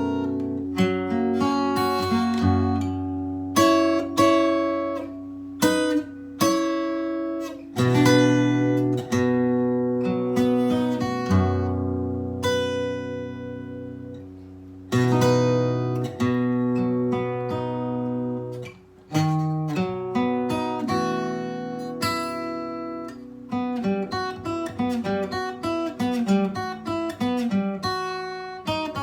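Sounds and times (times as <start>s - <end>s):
acoustic guitar melody: 0.0s - 29.0s.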